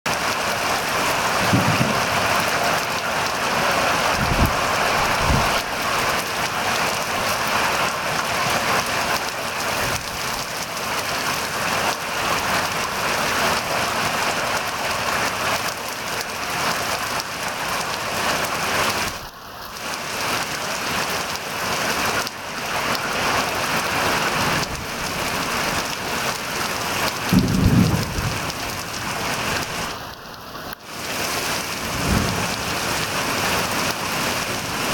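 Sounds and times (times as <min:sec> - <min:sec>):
heavy rain on pond and reeds: 0:00.0 - 0:34.9.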